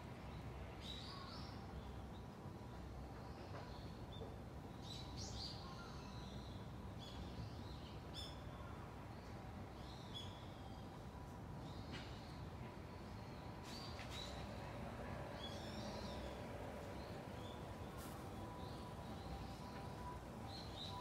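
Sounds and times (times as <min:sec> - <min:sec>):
low outdoor background noise: 0:00.0 - 0:21.0.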